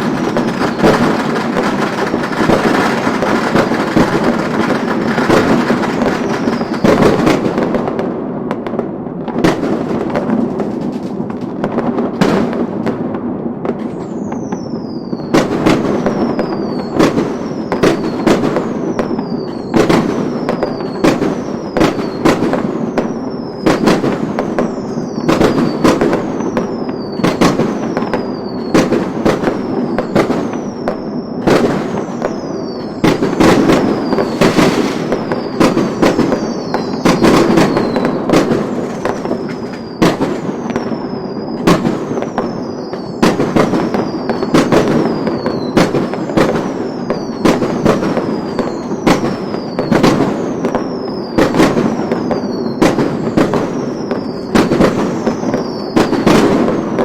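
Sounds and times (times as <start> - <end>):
firework whistle falling in pitch: 0.0 - 7.5, 13.8 - 57.0
fireworks bangs and crackle: 0.0 - 57.0.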